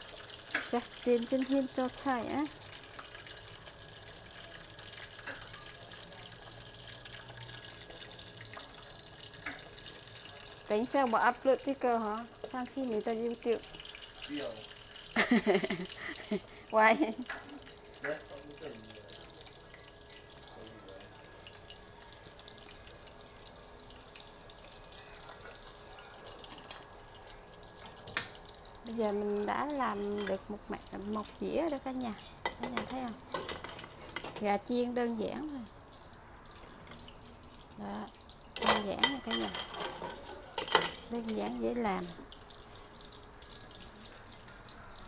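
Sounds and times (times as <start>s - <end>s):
chicken frying in hot oil: 0.0s - 45.0s.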